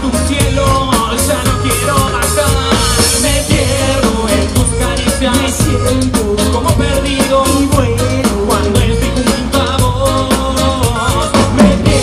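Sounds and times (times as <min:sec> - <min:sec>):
drum beat: 0:00.0 - 0:12.0
live rock band: 0:00.0 - 0:12.0
man singing: 0:00.0 - 0:12.0.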